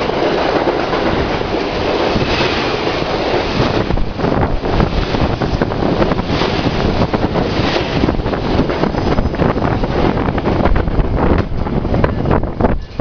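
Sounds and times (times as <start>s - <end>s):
train wheels rushing on rail: 0.0s - 13.0s
wind buffeting microphone: 0.0s - 13.0s.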